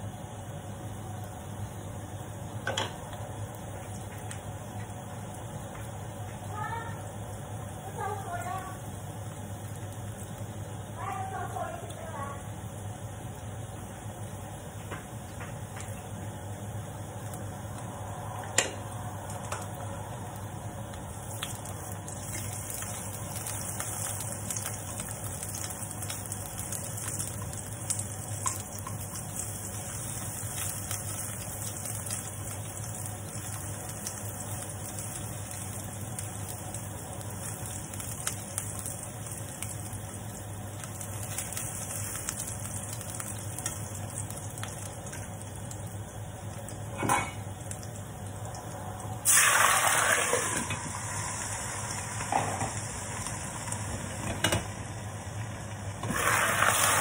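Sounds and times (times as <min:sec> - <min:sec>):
steady low hum: 0:00.0 - 0:56.1
garlic sizzling in hot oil: 0:00.0 - 0:57.0.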